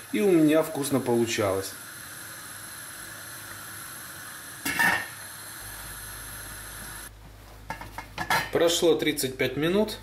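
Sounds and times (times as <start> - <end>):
pot boiling and bubbling: 0.0 - 9.0.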